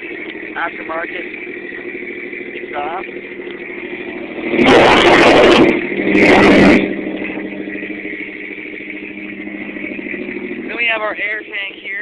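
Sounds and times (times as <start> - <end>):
engine revving bursts: 0.0 - 12.0
pickup engine idling: 0.0 - 12.0.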